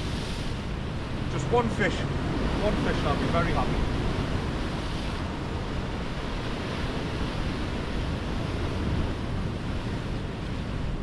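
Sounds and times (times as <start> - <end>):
surf washing against rocks: 0.0 - 11.0
wind noise on microphone: 0.0 - 11.0.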